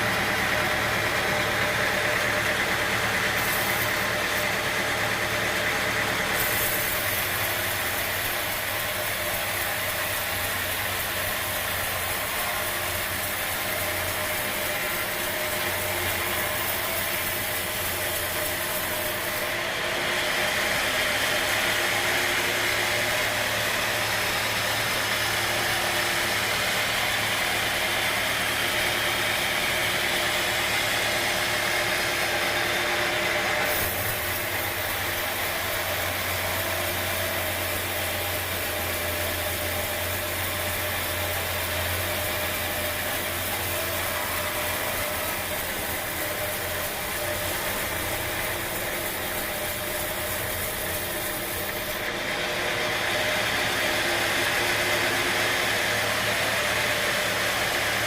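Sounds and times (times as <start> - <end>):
sawmill machinery humming and hissing: 0.0 - 58.0.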